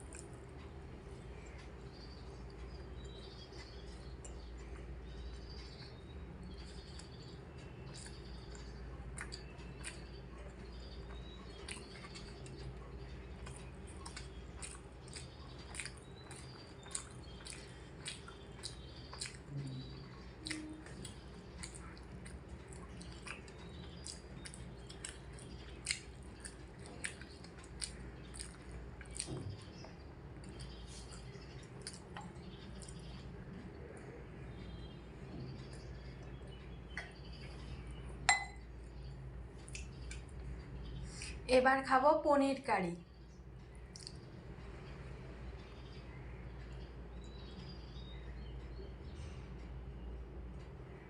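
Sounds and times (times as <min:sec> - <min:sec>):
person chewing with wet smacks: 0:00.0 - 0:34.0, 0:34.7 - 0:41.4, 0:43.9 - 0:44.2.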